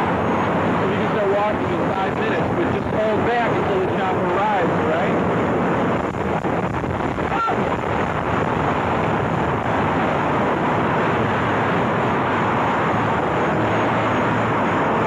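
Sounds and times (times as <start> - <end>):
loud steady engine noise: 0.0 - 15.0.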